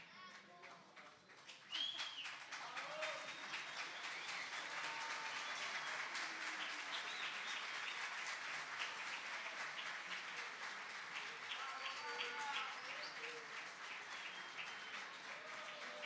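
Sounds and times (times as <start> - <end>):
audience applauding: 0.0 - 16.0
faint crowd voices: 2.5 - 16.0.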